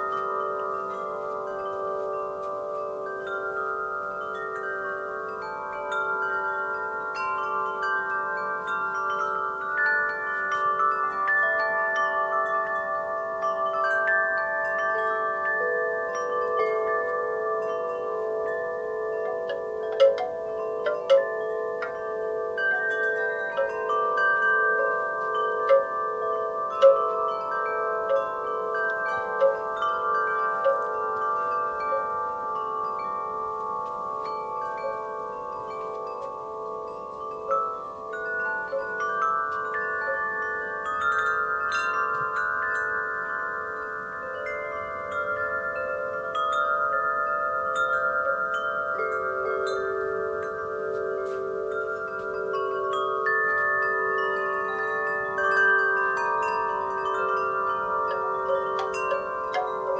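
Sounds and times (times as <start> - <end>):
wind chimes ringing: 0.0 - 59.9.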